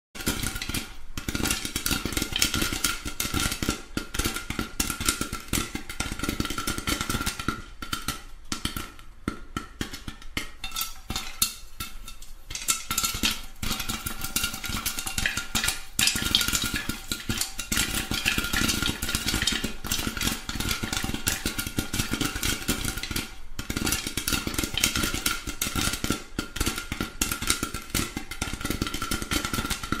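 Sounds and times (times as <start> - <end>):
popcorn popping: 0.2 - 30.0.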